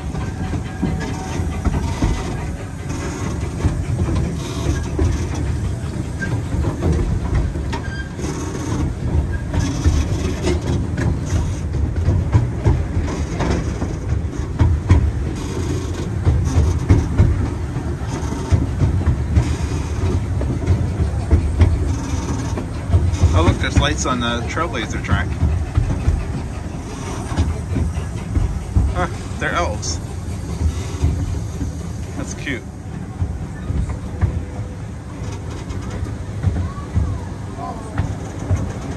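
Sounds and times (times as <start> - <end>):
train rolling along track: 0.0 - 38.9
wheels clicking and clattering: 0.0 - 38.9.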